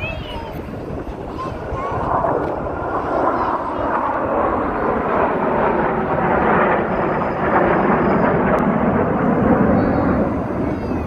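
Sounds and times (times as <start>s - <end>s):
jet engines flying overhead: 0.0s - 11.0s.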